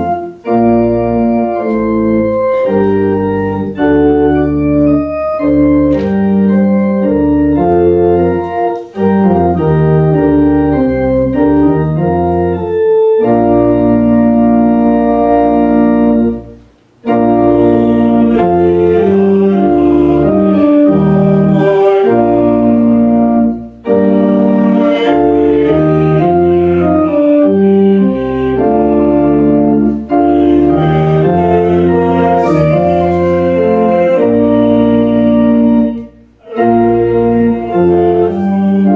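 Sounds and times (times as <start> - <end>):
church organ playing a hymn: 0.0 - 38.9.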